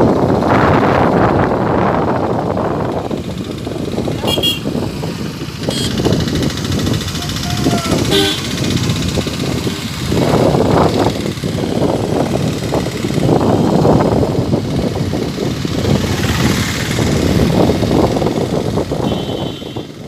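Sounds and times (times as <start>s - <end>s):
engine surging: 0.0s - 19.5s.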